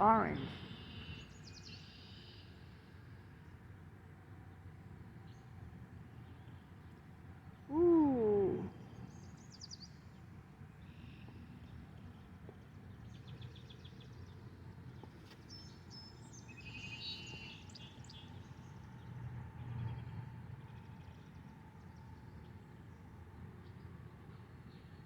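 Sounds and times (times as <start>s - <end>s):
songbirds singing: 0.0s - 2.6s, 5.2s - 24.0s.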